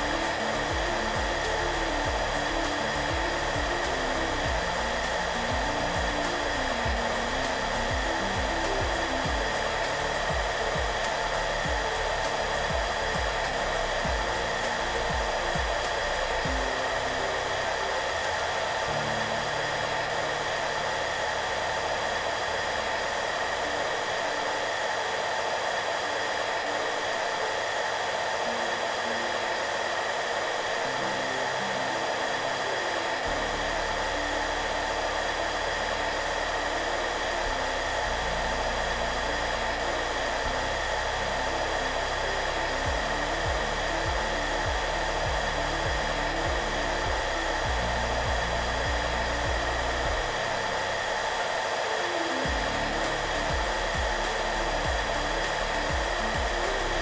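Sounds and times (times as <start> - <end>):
soft music with low beat: 0.0 - 24.9, 27.6 - 57.0
hair dryer blowing: 0.0 - 57.0.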